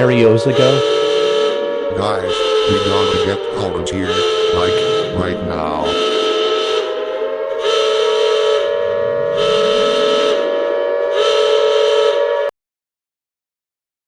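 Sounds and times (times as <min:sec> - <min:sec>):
horn-like alarm drone: 0:00.0 - 0:12.5.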